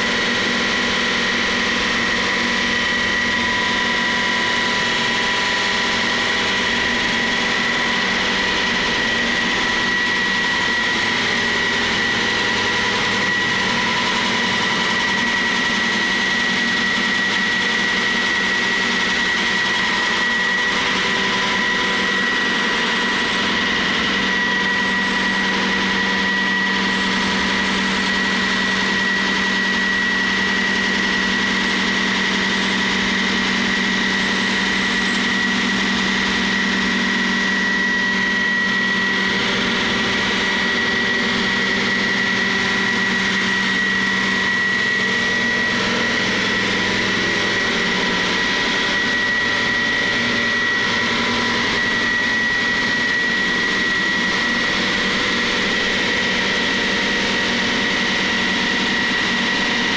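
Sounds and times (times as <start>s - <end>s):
construction machinery humming: 0.0s - 58.7s
constant high whine: 0.0s - 59.9s.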